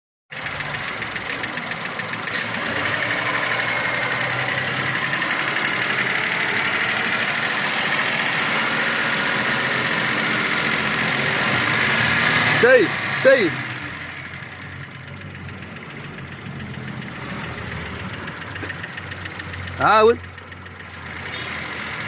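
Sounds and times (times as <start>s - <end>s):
car engine idling with light ticking: 0.3s - 22.0s.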